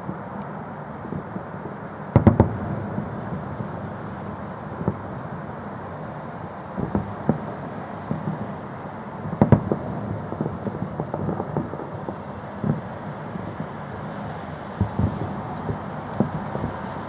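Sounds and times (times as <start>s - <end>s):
steady background noise: 0.0s - 17.0s
distant fireworks booming: 1.0s - 17.0s.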